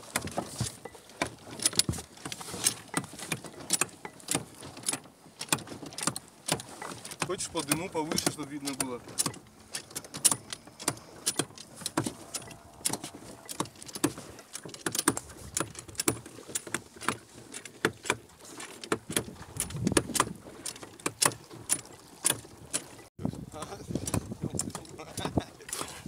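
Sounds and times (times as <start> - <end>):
metal lever clinking and rattling: 0.1 - 23.1.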